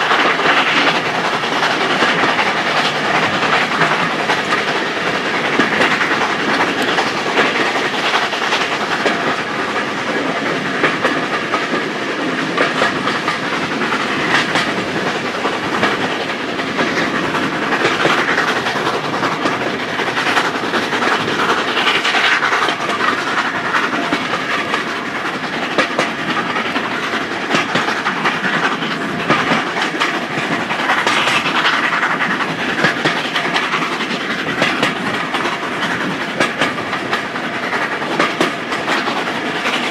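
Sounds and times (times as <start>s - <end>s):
carriage wheels clattering over rail joints: 0.0s - 39.9s
steam locomotive working hard: 0.0s - 39.9s.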